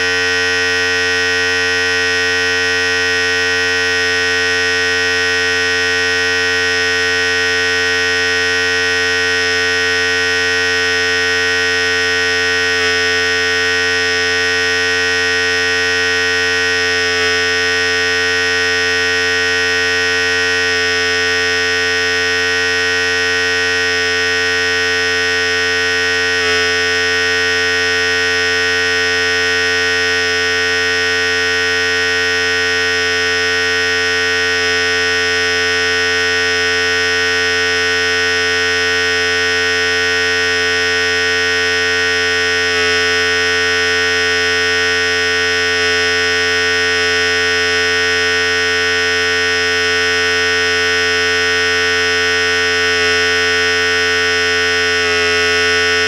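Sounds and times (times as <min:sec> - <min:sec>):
electric hair clipper buzzing: 0:00.0 - 0:56.0.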